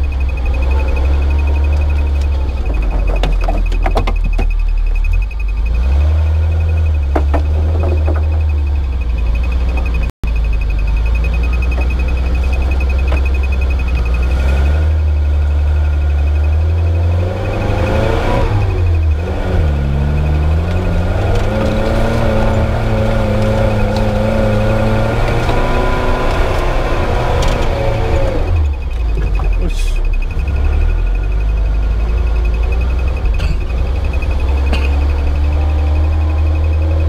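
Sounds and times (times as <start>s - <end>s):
car engine running at low speed: 0.0s - 37.0s.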